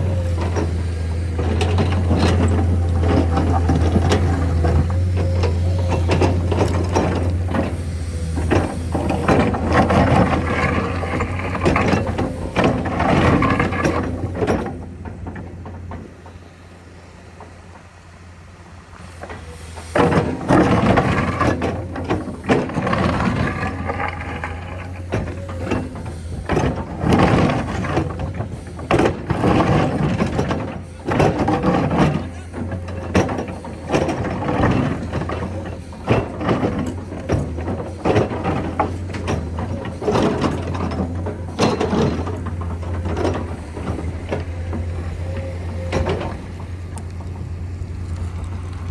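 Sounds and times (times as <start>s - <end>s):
mechanical clattering and rattling: 0.0s - 16.4s, 19.3s - 47.8s
machinery engine hum: 0.0s - 48.9s.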